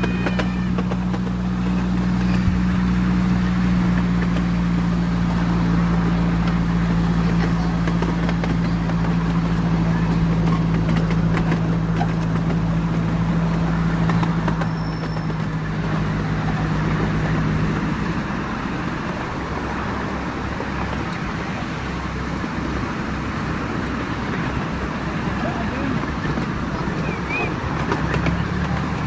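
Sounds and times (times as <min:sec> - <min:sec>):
low mechanical hum: 0:00.0 - 0:29.0
train wheels rolling on track: 0:00.0 - 0:29.0.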